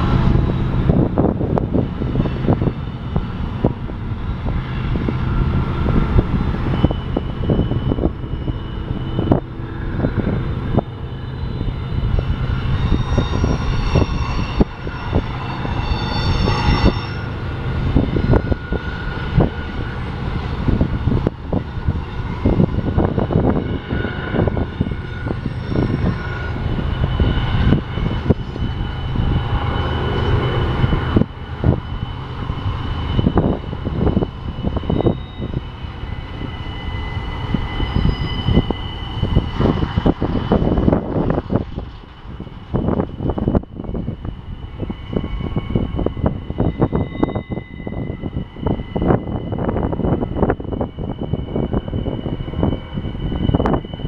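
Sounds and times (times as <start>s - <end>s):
clacks and knocks of rail cars: 0.0s - 54.0s
high-pitched wheel squeals: 0.0s - 54.0s
train wheels rumbling on rails: 0.0s - 54.0s.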